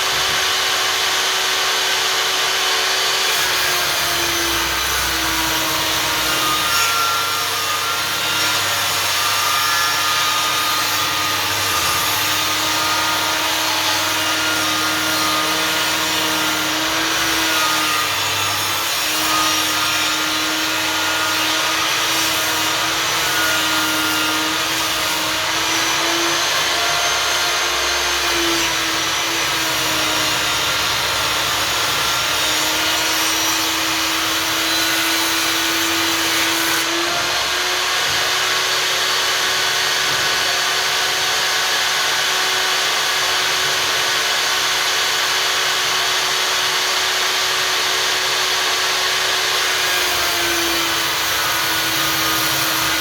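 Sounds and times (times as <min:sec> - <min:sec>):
table saw cutting a board: 0:00.0 - 0:53.0.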